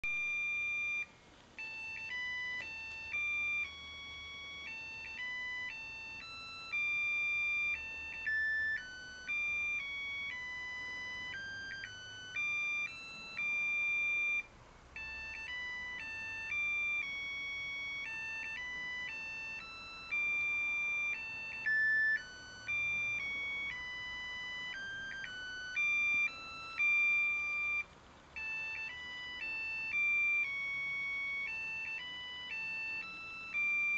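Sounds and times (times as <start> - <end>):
electronic beeping tune: 0.0 - 33.9.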